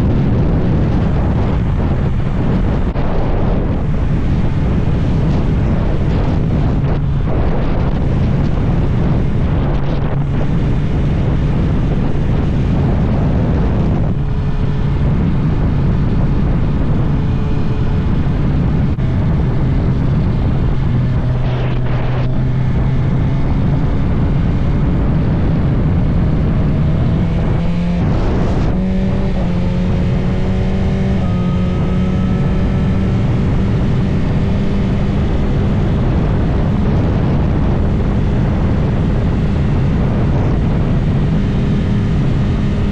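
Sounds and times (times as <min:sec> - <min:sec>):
motorcycle engine accelerating: 0:00.0 - 0:42.9
wind noise on microphone: 0:00.0 - 0:42.9.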